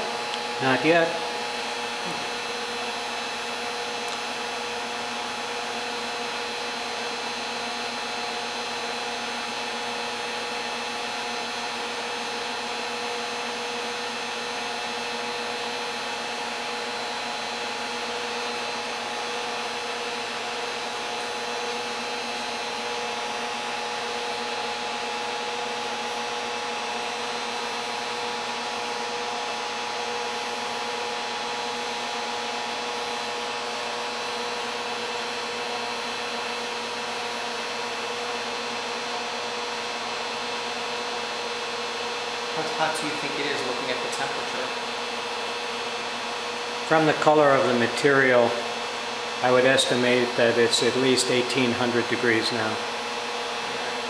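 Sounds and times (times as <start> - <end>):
induction heater hissing with tones: 0.0 - 54.0.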